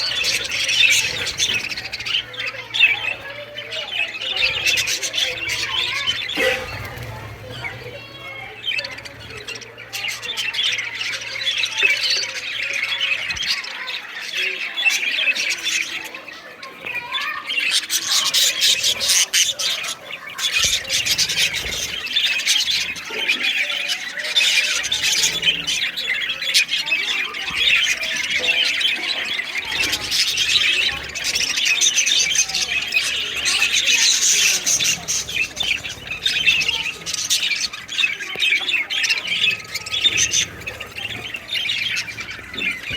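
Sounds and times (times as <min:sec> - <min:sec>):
caged birds chattering and squawking: 0:00.0 - 0:42.9.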